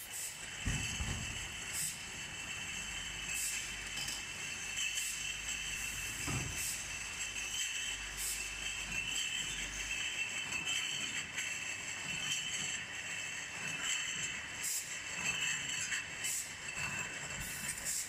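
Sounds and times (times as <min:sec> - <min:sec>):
machine mechanical whine: 0:00.0 - 0:18.0.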